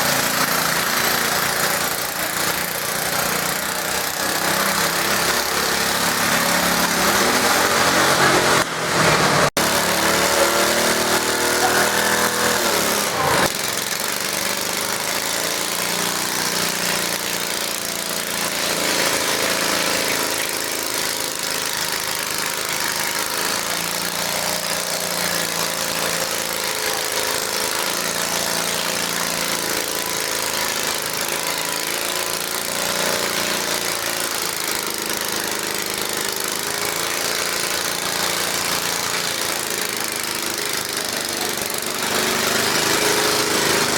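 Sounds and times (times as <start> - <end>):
garden tractor engine running hard: 0.0 - 43.9.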